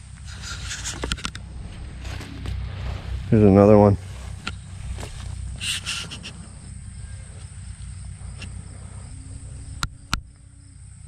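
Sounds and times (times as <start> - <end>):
leaves and stems rustling: 0.0 - 9.6
wind rumble on microphone: 0.0 - 11.0.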